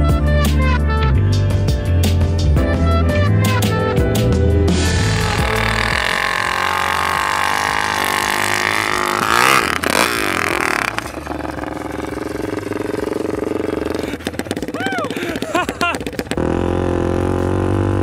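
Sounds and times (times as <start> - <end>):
motorcycle engine revving: 3.4 - 18.0.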